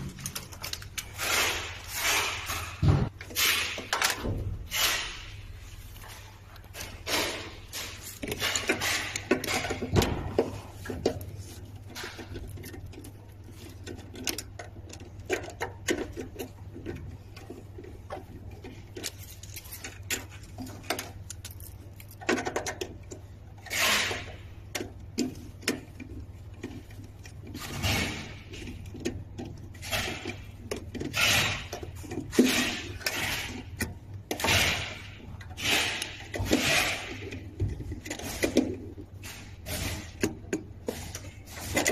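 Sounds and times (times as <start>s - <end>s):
clicks and clattering of parts: 0.0s - 41.9s.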